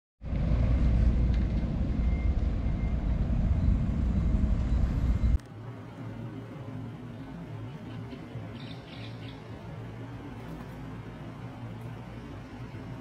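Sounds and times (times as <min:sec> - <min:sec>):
road traffic rumble: 0:00.2 - 0:13.0.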